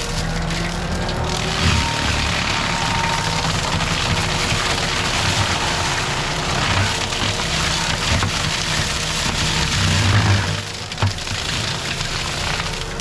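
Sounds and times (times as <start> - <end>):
mulcher grinding under load: 0.0 - 13.0.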